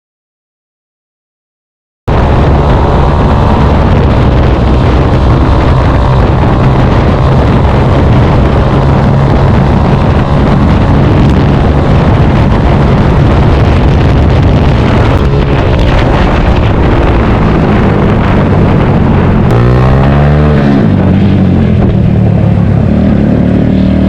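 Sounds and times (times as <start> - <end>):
loud motorcycle engine running: 2.1 - 24.0.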